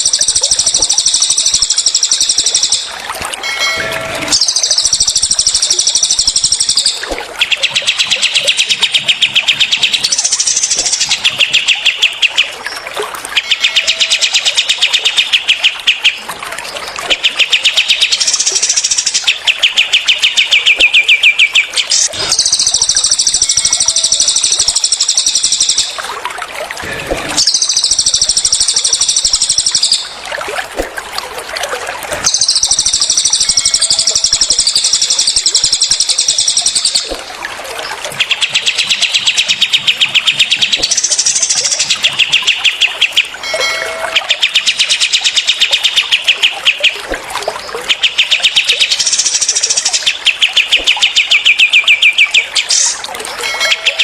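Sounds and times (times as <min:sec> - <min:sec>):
bird trills: 0:00.0 - 0:16.2, 0:17.1 - 0:26.0, 0:27.3 - 0:30.2, 0:32.3 - 0:37.2, 0:38.2 - 0:54.0
high-pitched birdsong: 0:00.0 - 0:26.0, 0:27.4 - 0:30.2, 0:32.2 - 0:37.2, 0:37.8 - 0:54.0.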